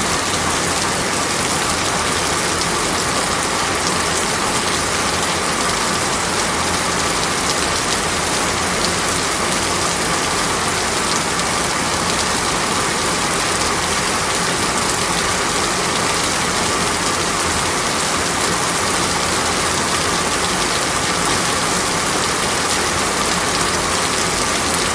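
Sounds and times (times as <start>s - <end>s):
rain pattering on a window: 0.0s - 24.9s.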